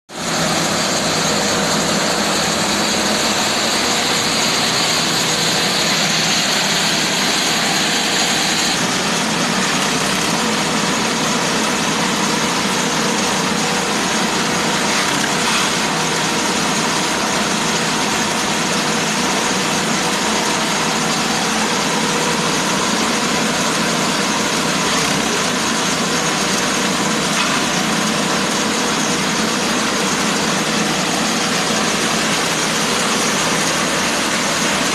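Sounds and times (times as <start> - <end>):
grass chopper engine running: 0.1 - 34.9.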